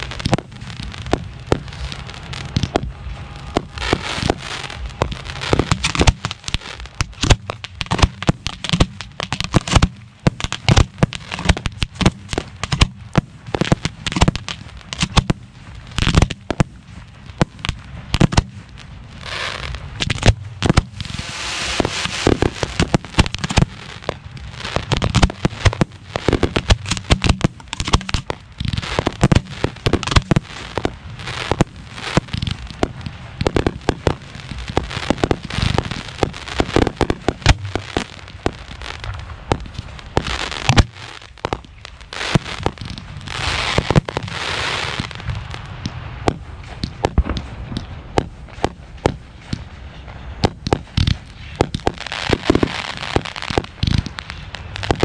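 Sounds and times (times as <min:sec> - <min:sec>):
firework booms and cracks: 0:00.0 - 0:55.0
hissing crackle of fireworks: 0:00.0 - 0:55.0.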